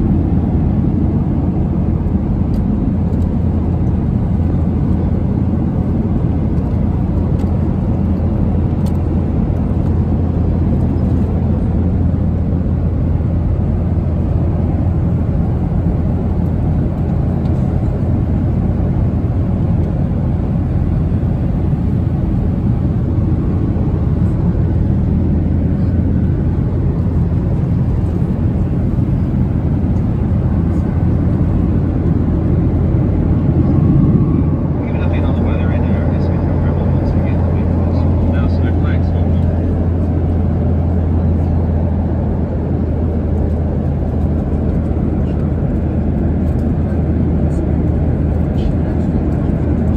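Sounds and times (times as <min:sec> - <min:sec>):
airliner cabin drone: 0:00.0 - 0:49.9.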